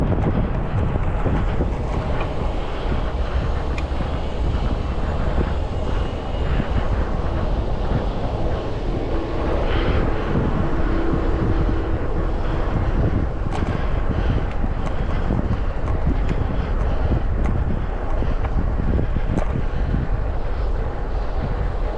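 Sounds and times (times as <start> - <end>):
faint steady hum: 0.0 - 21.9
road and traffic noise: 0.0 - 21.9
wind on microphone: 0.0 - 21.9.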